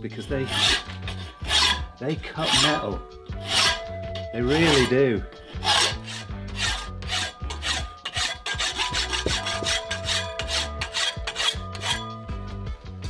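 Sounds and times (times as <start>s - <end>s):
hand file rasping on steel: 0.1s - 12.2s.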